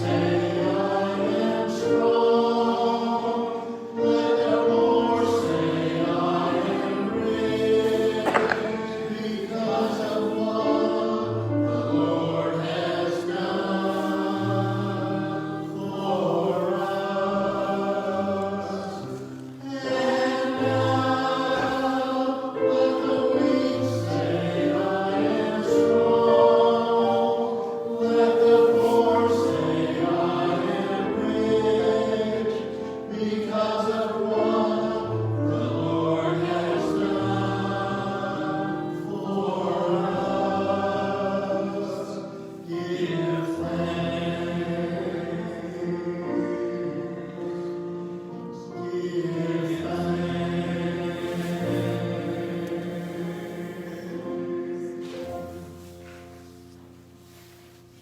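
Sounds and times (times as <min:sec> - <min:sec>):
choir singing a slow sacred piece: 0:00.0 - 0:58.0.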